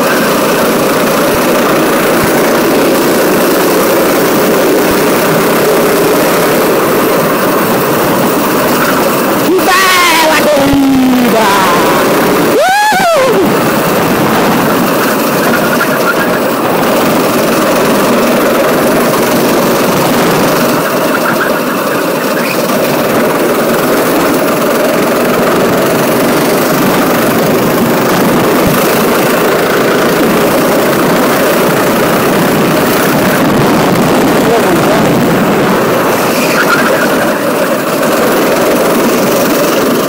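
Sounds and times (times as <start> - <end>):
kart engine running hard: 0.0 - 40.0.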